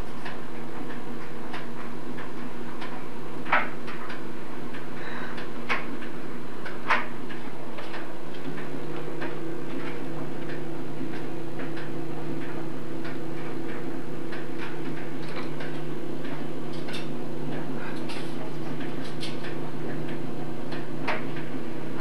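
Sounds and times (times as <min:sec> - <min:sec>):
steady low hum: 0:00.0 - 0:22.0
faint clicks and ticks: 0:00.1 - 0:22.0.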